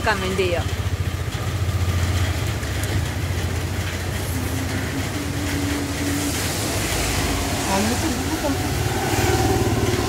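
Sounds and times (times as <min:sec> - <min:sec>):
traffic rumble: 0:00.0 - 0:10.0
rain and wet tyres hissing: 0:00.8 - 0:10.0.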